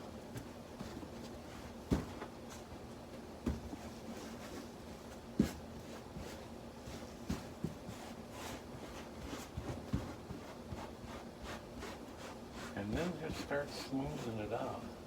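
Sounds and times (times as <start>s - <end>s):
faint rustling of cloth: 0.3s - 14.9s.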